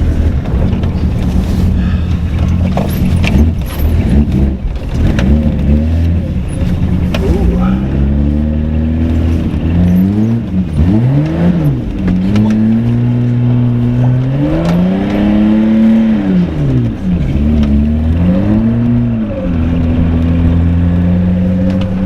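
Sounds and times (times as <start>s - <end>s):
car engine revving and misfiring: 0.0s - 22.0s.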